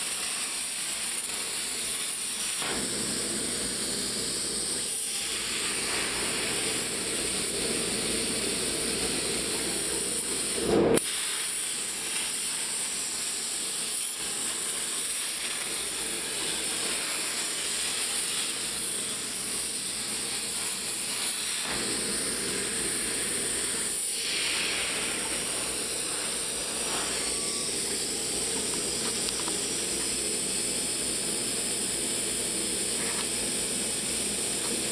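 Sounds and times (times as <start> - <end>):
plasma cutter hissing: 0.0 - 34.9.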